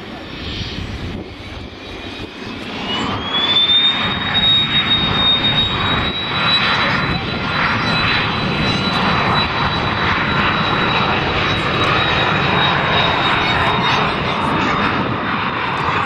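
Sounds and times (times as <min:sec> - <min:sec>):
jet engines roaring at takeoff: 0:00.0 - 0:16.0.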